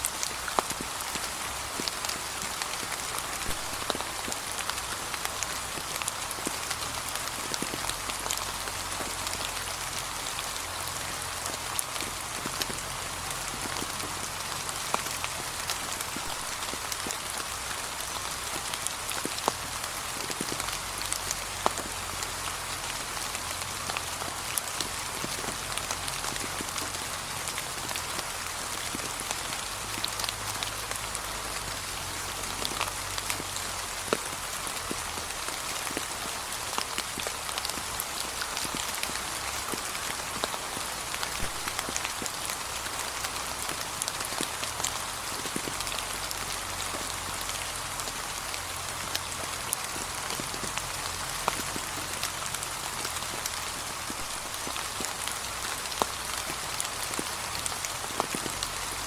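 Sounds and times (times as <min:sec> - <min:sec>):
gentle rain with drop ticks: 0:00.0 - 0:59.0.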